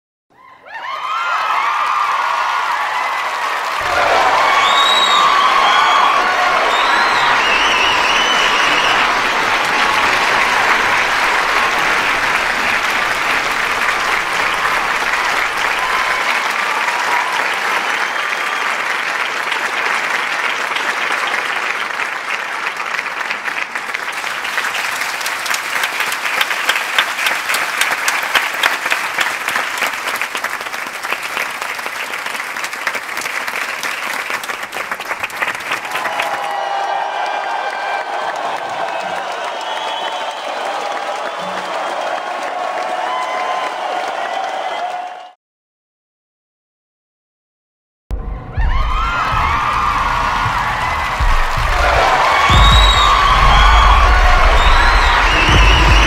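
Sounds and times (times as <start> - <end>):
audience applauding: 0.7 - 45.4, 48.5 - 56.0.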